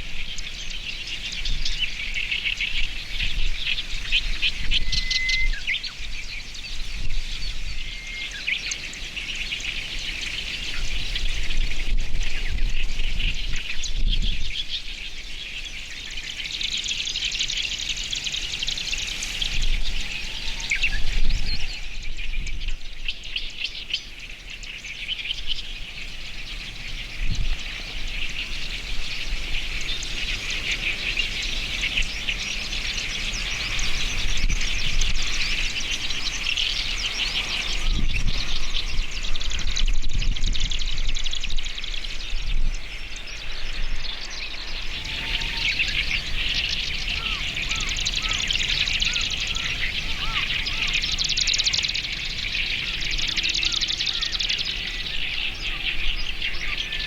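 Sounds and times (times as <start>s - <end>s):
songbirds chirping in chorus: 0.0s - 57.0s.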